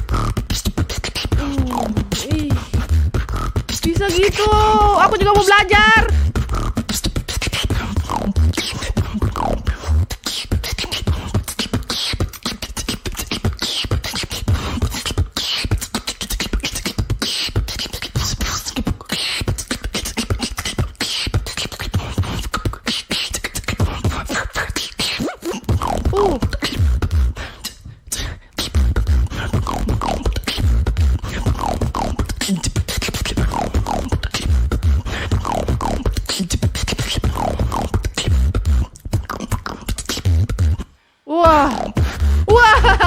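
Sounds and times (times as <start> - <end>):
woman beatboxing: 0.0 - 43.0.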